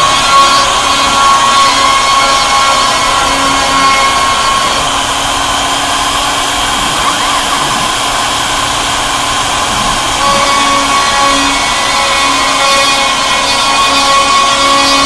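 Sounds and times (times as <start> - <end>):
machine tones: 0.0 - 15.0
router spindle whine: 0.0 - 15.0.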